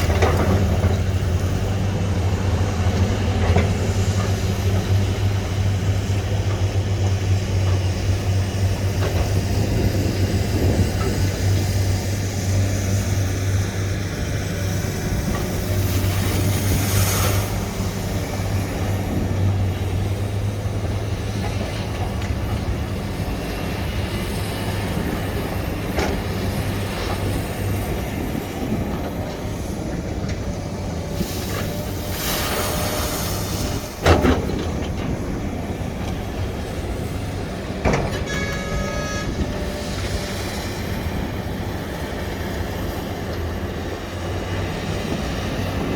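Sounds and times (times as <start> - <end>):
excavator diesel engine rumbling: 0.0 - 45.9.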